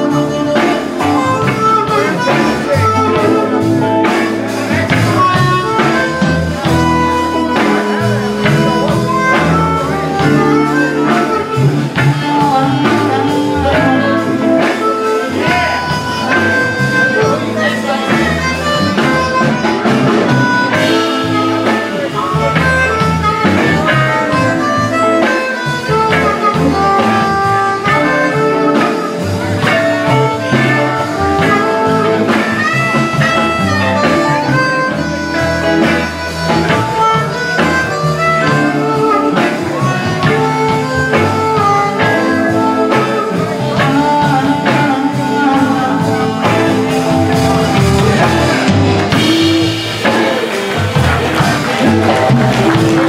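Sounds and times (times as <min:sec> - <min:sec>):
harmonica bending notes: 0:00.0 - 0:53.0
live blues band: 0:00.0 - 0:53.0.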